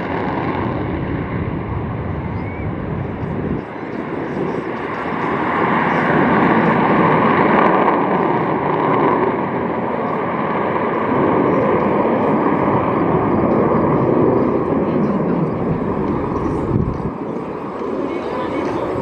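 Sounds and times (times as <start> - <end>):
faint steady whine: 0.0 - 19.0
jet engine rush: 0.0 - 19.0.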